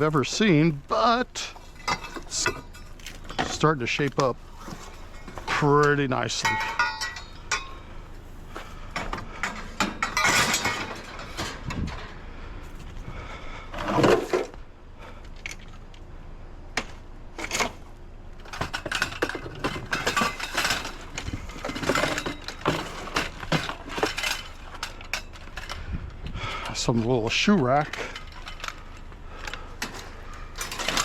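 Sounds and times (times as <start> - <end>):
metal scrap clanking: 0.0 - 14.6, 16.8 - 31.0.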